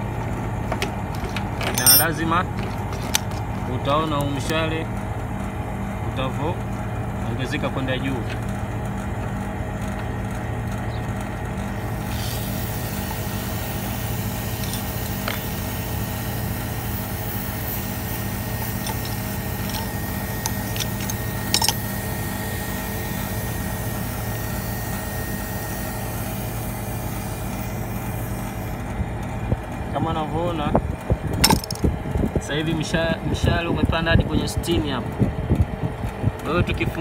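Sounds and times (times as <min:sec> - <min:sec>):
air conditioner humming: 0:00.0 - 0:37.0.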